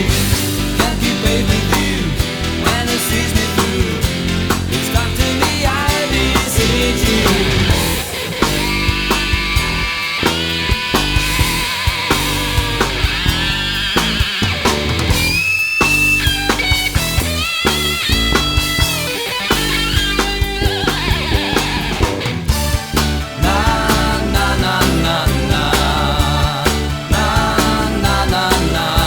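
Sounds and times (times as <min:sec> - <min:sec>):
bass guitar: 0:00.0 - 0:29.0
steady drums: 0:00.0 - 0:29.0
lead guitar melody: 0:03.9 - 0:15.4, 0:16.1 - 0:29.0.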